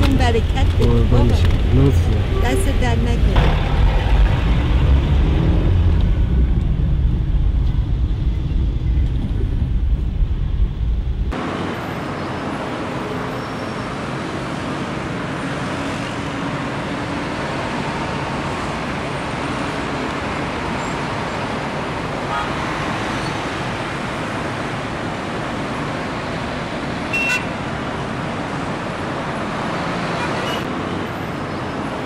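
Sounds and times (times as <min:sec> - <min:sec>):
dense road traffic roar: 0:00.0 - 0:32.0.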